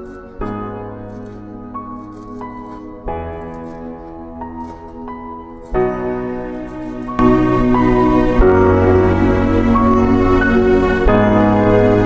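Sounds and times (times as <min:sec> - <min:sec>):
soft sustained chord music: 0:00.0 - 0:12.0.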